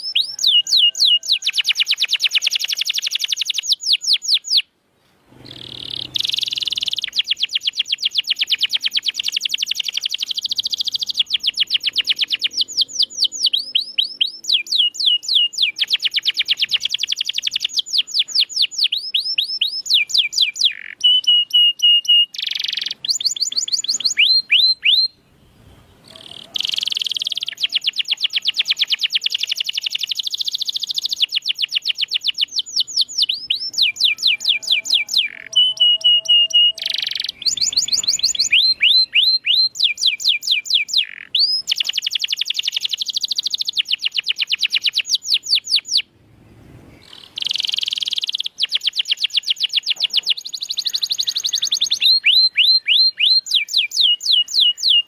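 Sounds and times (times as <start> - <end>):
canary singing in rapid trills: 0.0 - 4.7, 5.4 - 25.2, 26.0 - 46.1, 47.0 - 55.0.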